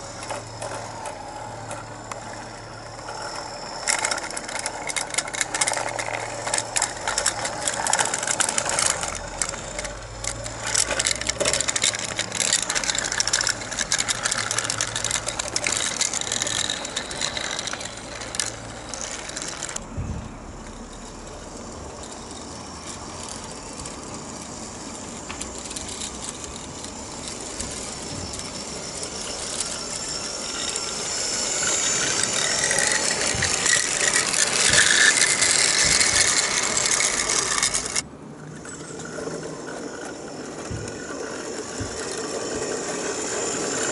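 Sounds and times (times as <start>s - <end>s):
model locomotive motor running: 0.0s - 43.9s
wheels clicking on track: 0.0s - 43.9s.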